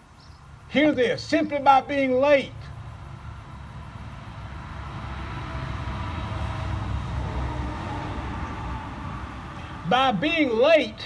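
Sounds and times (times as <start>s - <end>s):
motor vehicle passing: 0.4s - 11.0s.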